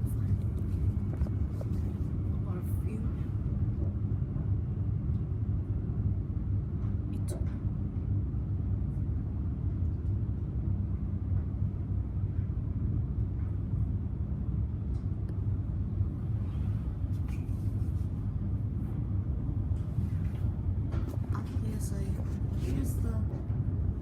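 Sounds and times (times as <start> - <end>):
train rumbling inside carriage: 0.0 - 24.0.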